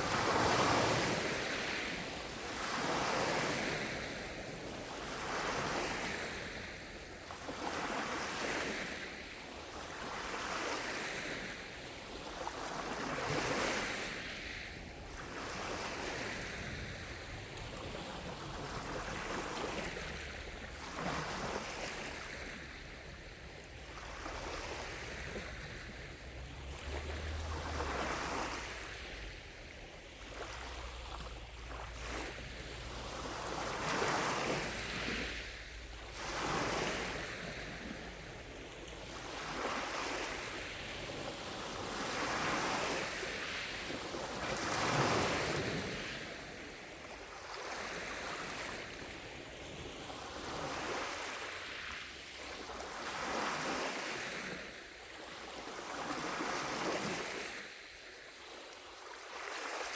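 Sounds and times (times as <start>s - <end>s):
lake waves lapping on shore: 0.0s - 59.9s.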